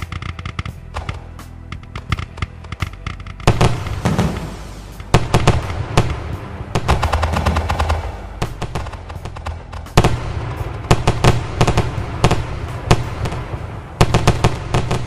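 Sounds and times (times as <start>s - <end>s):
fireworks crackling: 0.0s - 15.0s
fireworks cracks and bangs: 0.0s - 15.0s
low rumble: 0.0s - 15.0s.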